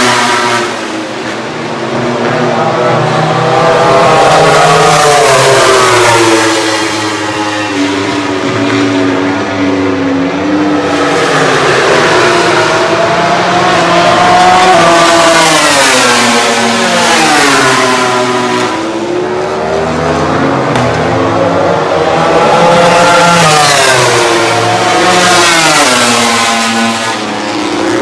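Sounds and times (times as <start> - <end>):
racing motorcycles at high revs: 0.0 - 28.0.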